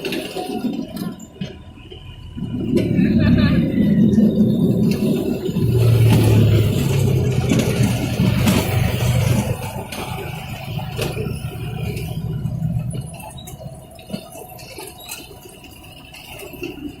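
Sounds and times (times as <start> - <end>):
train engine drone: 0.0 - 17.0.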